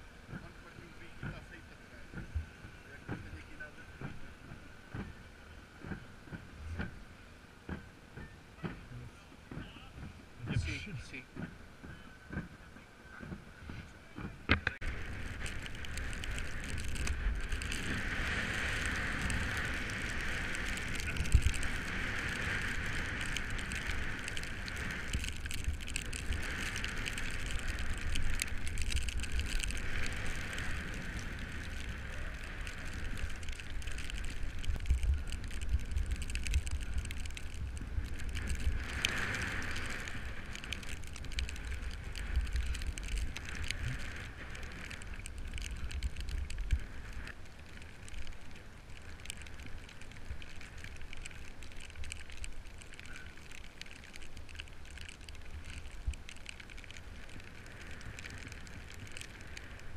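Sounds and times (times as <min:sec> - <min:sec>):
bicycle tyre hiss and drivetrain: 0:00.0 - 0:59.9
wind rumble on microphone: 0:00.0 - 0:59.9.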